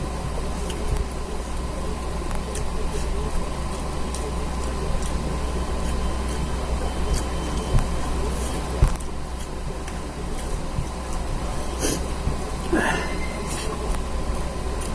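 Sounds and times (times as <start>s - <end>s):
low background rumble and hum: 0.0s - 14.9s
person chewing food: 0.0s - 14.9s.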